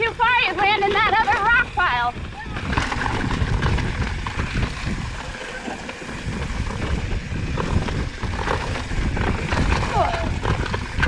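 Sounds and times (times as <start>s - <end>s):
bike rattling over rocks: 0.0s - 11.0s
wind buffeting microphone: 0.0s - 11.0s.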